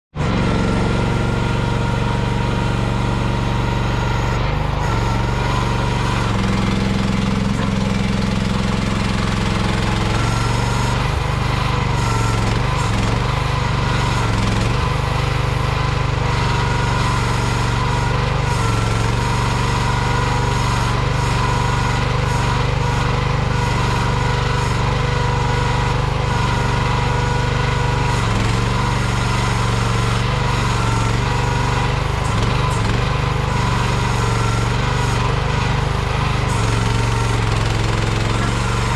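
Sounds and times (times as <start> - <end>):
mini excavator engine running: 0.2 - 38.9.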